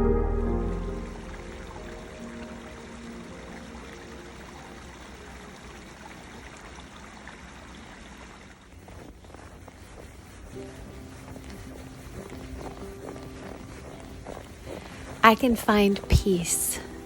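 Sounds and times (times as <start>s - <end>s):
soft background music: 0.0s - 6.6s, 9.6s - 17.0s
stream water running: 0.4s - 17.0s.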